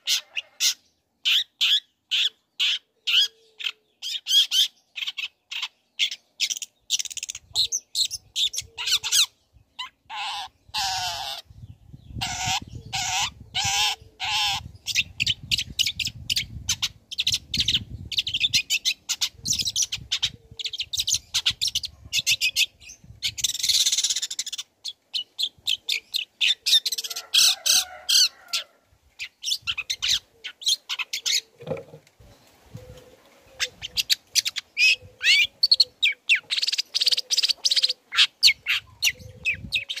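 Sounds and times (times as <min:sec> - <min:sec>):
harsh rasping bird calls: 0:00.0 - 0:11.5, 0:12.1 - 0:32.0, 0:33.4 - 0:40.0
bird chattering and chirping: 0:00.0 - 0:27.9, 0:29.2 - 0:31.8, 0:33.6 - 0:40.0.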